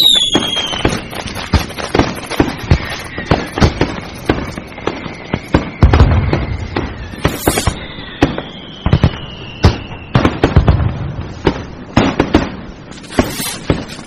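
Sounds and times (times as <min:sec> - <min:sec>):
falling firework whistle: 0:00.0 - 0:14.0
firecrackers crackling: 0:00.0 - 0:14.0
fireworks bangs: 0:00.0 - 0:14.0.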